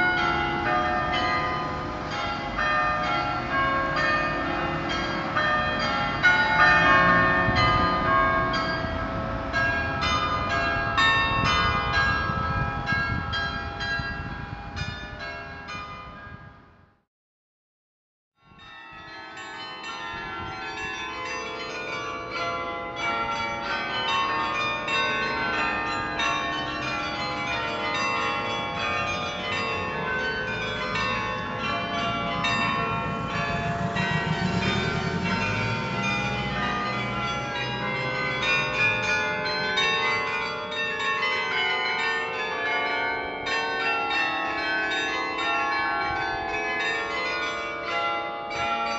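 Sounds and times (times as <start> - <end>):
carillon bells playing a tune: 0.0 - 16.4, 18.6 - 48.9.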